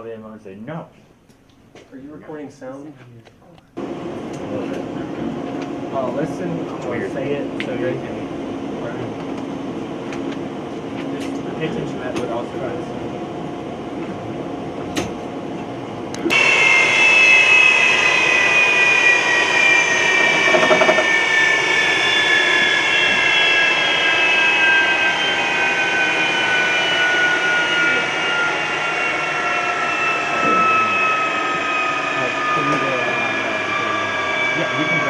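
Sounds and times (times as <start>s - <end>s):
jet engine spooling down: 3.8s - 35.0s.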